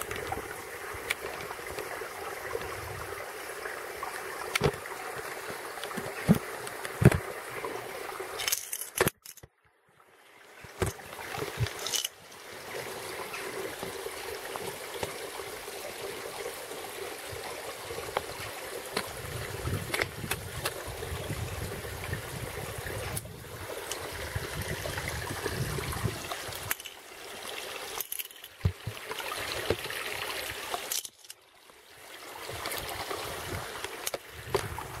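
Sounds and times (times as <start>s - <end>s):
stream rushing over rocks: 0.0s - 8.6s, 10.2s - 35.0s.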